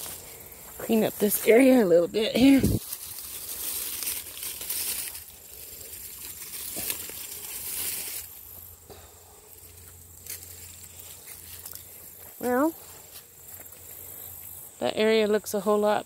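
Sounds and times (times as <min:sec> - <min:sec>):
plants rustling and crackling: 0:00.0 - 0:16.0.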